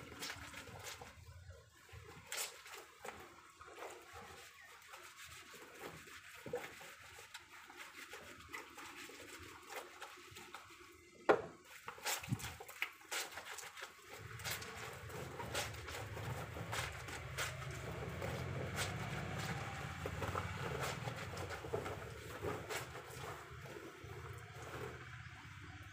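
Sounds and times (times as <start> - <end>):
water dripping and splashing: 0.0 - 25.9.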